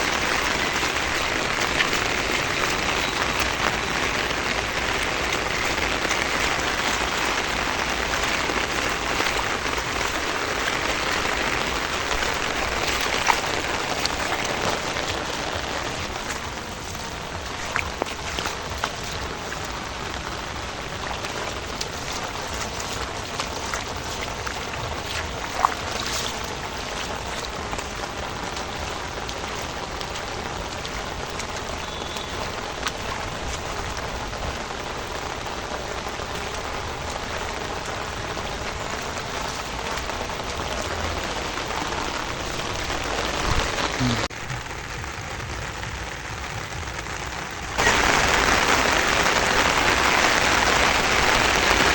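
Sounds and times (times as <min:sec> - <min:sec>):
single raindrops hitting: 0:00.0 - 0:44.8
heavy rain falling: 0:00.0 - 0:51.9.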